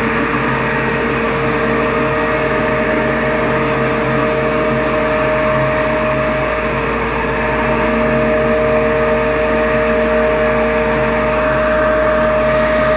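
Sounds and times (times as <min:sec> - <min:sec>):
grinding machine whine and hum: 0:00.0 - 0:12.9.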